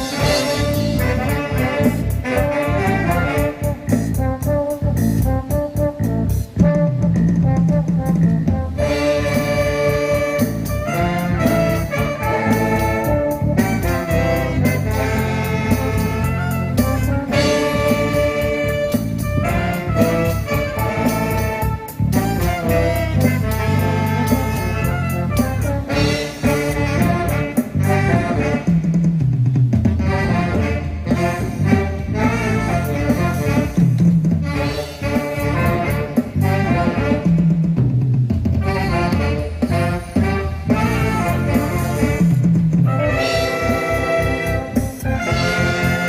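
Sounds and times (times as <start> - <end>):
band playing live: 0.0 - 46.0
brass and saxophones: 0.0 - 46.0
steady drum beat: 0.0 - 46.0.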